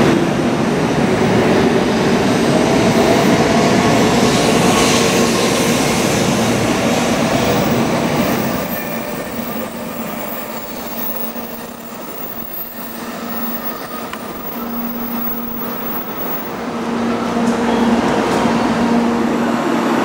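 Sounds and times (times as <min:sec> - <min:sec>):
train rushing past: 0:00.0 - 0:20.0.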